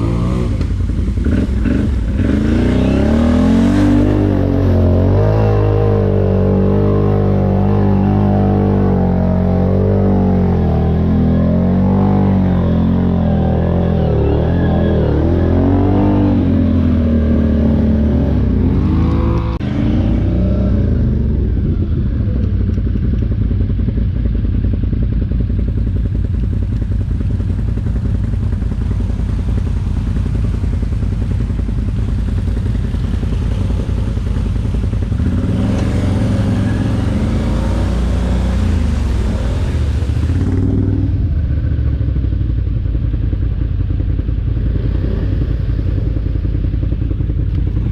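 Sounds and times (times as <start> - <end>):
atv engine revving: 0.0 - 42.7, 43.8 - 47.9.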